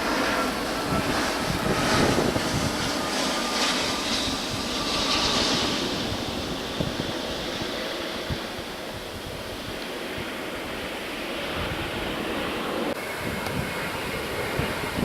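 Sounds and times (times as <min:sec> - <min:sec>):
distant jet engines roaring: 0:00.0 - 0:15.0
wind on microphone: 0:00.0 - 0:15.0.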